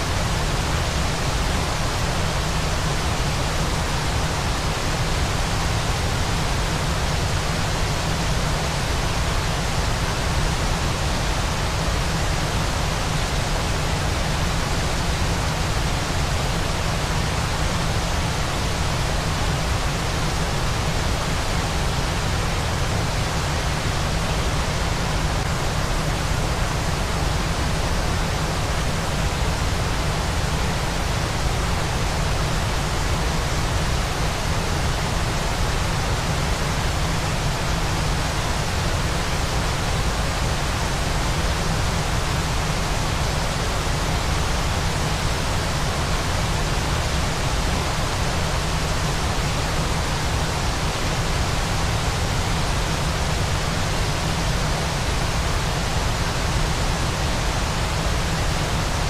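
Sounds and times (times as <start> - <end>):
waterfall rushing hiss: 0.0 - 59.0.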